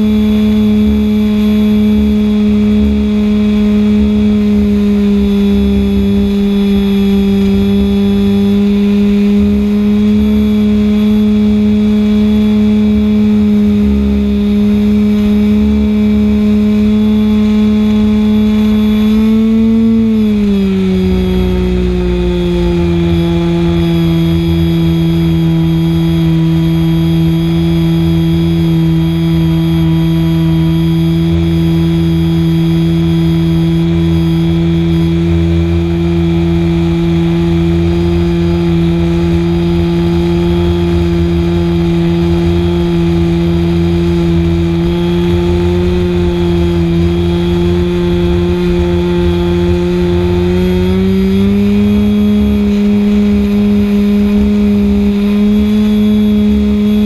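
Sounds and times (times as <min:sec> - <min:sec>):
model plane engine running high: 0:00.0 - 0:57.0.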